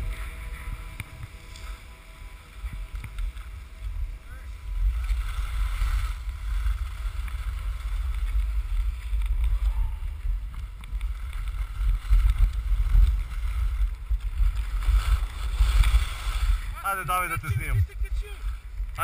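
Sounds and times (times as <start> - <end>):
skis sliding on snow: 0.0 - 19.0
wind buffeting microphone: 0.0 - 19.0.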